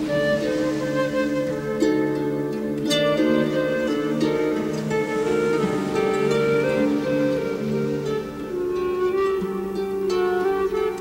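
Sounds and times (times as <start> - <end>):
plucked note: 0.0 - 11.0
slow melody of held notes: 0.0 - 11.0.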